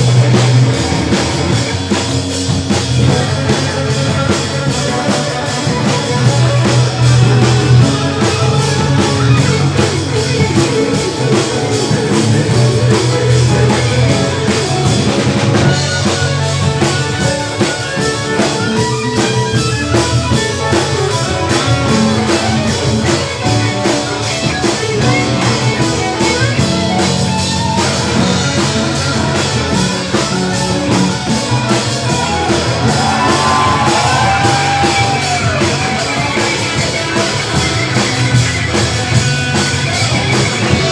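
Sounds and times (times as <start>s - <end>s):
jazz-rock band playing live: 0.0s - 40.9s.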